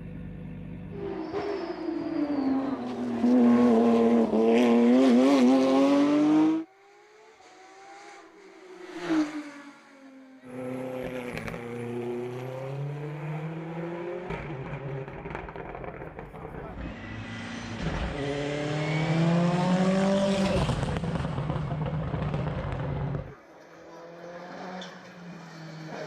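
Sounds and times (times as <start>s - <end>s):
race car engine at high revs: 0.9s - 26.0s
distant race car engine passing: 1.0s - 26.0s.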